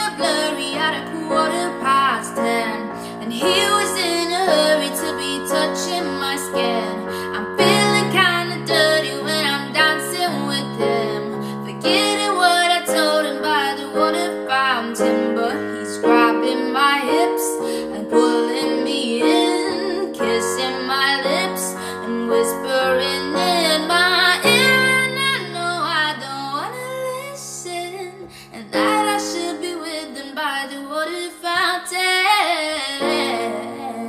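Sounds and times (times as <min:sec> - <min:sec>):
keyboard held chords: 0:00.0 - 0:30.4
woman singing: 0:00.0 - 0:34.0.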